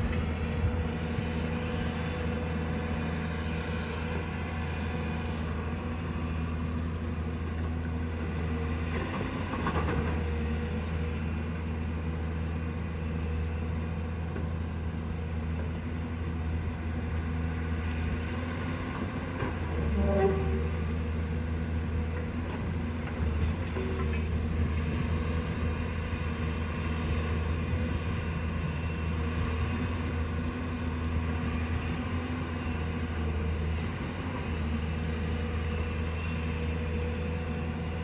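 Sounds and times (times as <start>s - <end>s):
excavator diesel engine: 0.0s - 38.0s.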